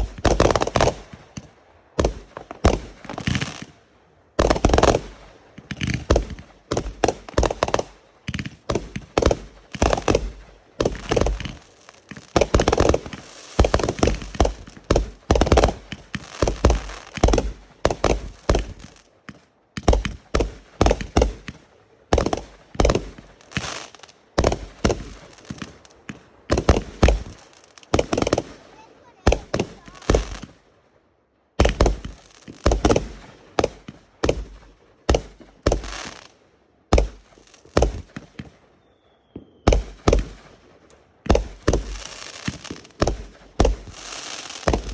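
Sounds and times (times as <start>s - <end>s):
fireworks bangs and booms: 0.0s - 30.9s, 31.6s - 44.9s.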